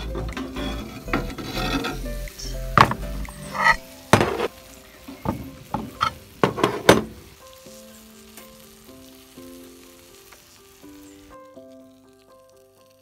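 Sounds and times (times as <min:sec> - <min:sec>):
chicken sizzling in a pan: 0:00.0 - 0:13.0
light background music: 0:00.0 - 0:13.0.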